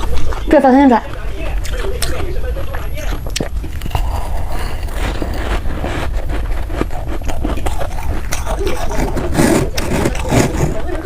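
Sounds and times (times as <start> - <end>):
person chewing ice: 0.0 - 11.0
steady low hum: 0.0 - 11.0.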